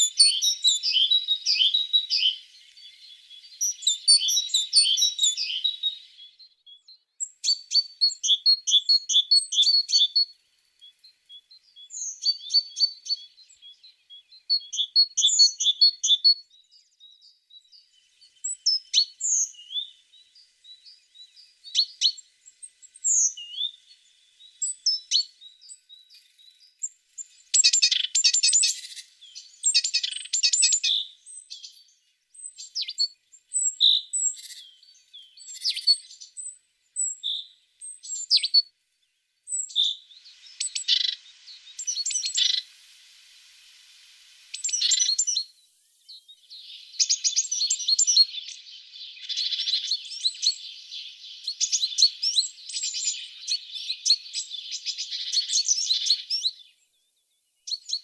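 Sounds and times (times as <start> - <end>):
small birds singing and trilling: 0.0 - 58.0.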